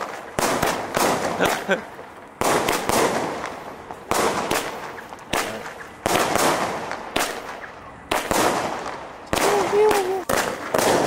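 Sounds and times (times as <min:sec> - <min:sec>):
firework shots bang and crackle: 0:00.0 - 0:11.0.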